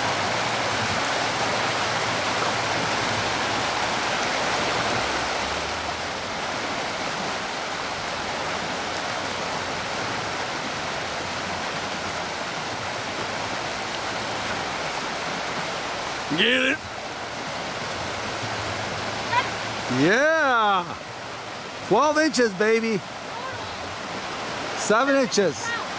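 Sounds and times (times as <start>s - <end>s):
creek water rushing: 0.0s - 25.9s.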